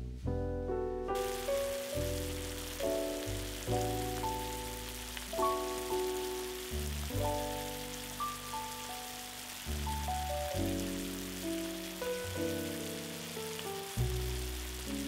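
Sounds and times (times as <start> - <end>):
food sizzling in a pan: 1.2 - 15.0.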